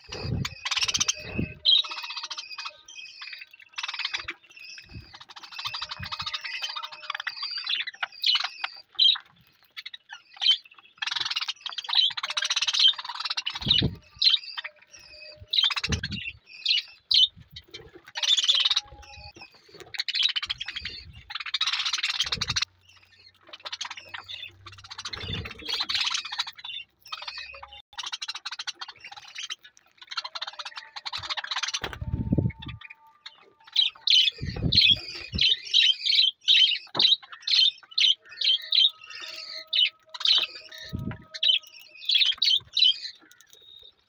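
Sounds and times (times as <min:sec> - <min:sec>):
budgerigars chattering: 0:00.0 - 0:09.3, 0:09.9 - 0:43.9.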